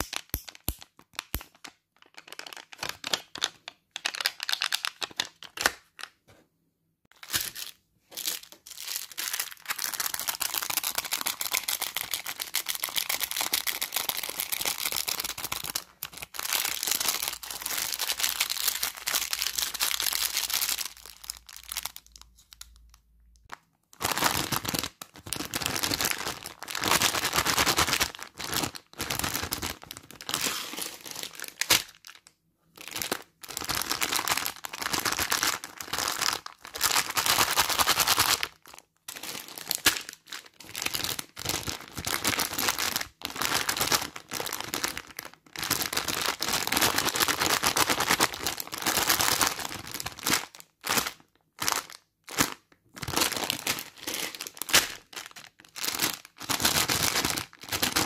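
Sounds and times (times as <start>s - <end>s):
plastic candy packets crinkling: 0.0s - 6.2s, 7.1s - 58.0s.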